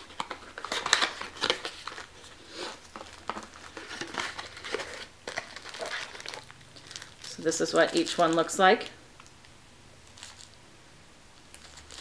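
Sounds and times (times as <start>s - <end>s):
plastic wrap crinkling: 0.0s - 9.3s, 10.1s - 10.6s, 11.5s - 12.0s.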